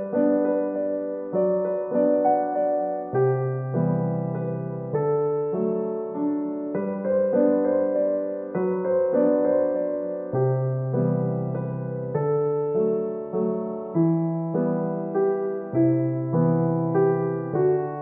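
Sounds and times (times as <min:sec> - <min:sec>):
gentle keyboard melody: 0:00.0 - 0:18.0.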